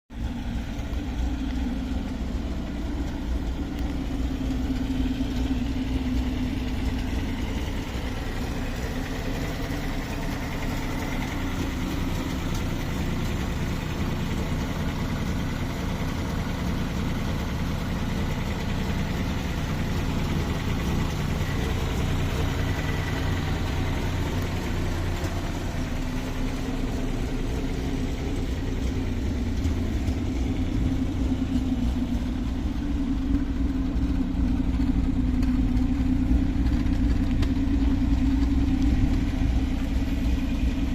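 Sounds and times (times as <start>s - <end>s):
car engine idling: 0.1s - 40.9s.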